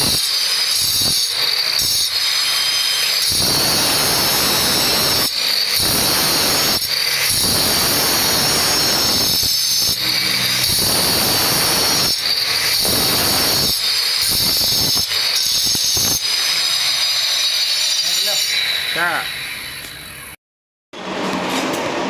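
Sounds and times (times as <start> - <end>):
blade cutting stone: 0.0 - 20.1
marble cutter whining: 0.0 - 20.4.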